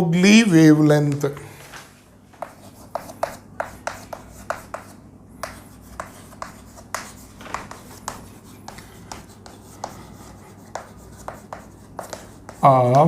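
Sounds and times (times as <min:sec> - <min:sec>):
pen scratching on paper: 0:02.4 - 0:13.0.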